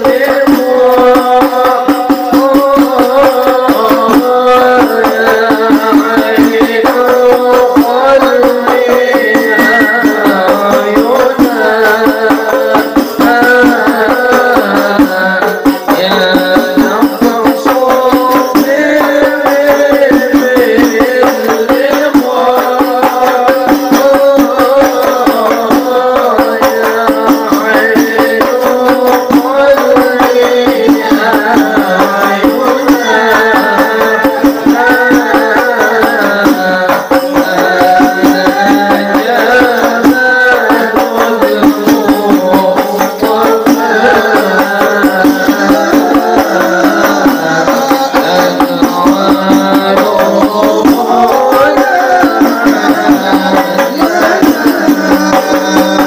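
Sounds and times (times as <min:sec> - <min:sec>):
frame drums beating: 0:00.0 - 0:56.0
group of voices singing: 0:00.0 - 0:56.0.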